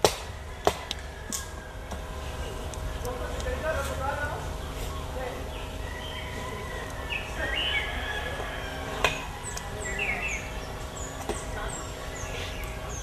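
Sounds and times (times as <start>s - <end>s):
outdoor background hum: 0.0s - 13.0s
birds chirping: 0.2s - 13.0s.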